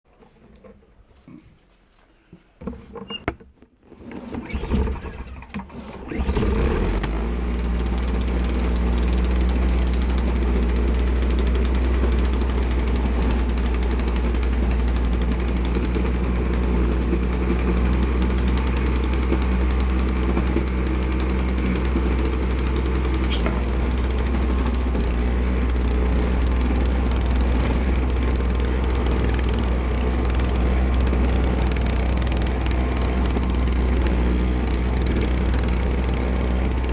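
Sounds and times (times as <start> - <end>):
small gasoline engine running: 4.0 - 36.9.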